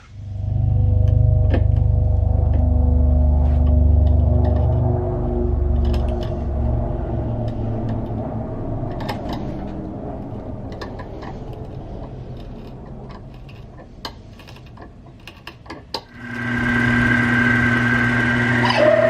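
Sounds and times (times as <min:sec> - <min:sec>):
machine low hum: 0:00.0 - 0:14.8, 0:16.1 - 0:19.0
electric hum and whine: 0:00.0 - 0:19.0.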